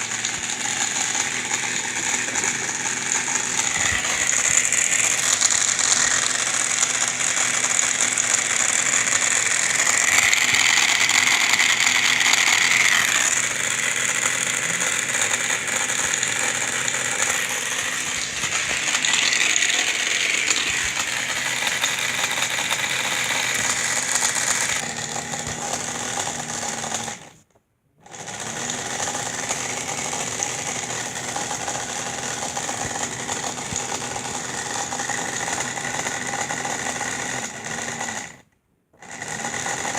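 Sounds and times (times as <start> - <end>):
rattle: 0.0 - 27.4, 28.1 - 39.9.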